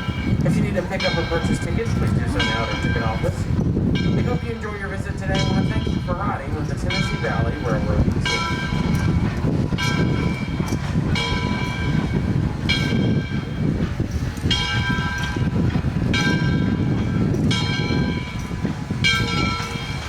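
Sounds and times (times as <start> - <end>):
locomotive bell ringing: 0.0 - 20.0
low rumble of arriving train: 0.0 - 20.0.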